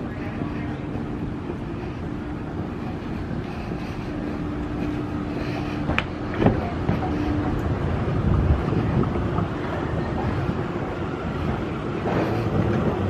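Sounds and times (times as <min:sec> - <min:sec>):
faint steady hum: 0:00.0 - 0:12.8
moving walkway rumble: 0:00.0 - 0:13.0.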